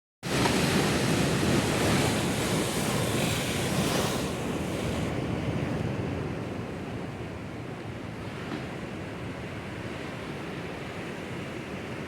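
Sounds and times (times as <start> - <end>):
sea waves breaking over rocks: 0.2 - 12.0.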